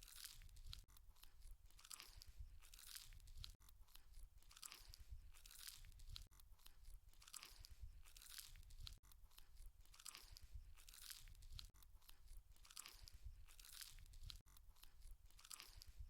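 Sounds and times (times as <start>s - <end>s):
chewing and crunching: 0.0s - 16.0s.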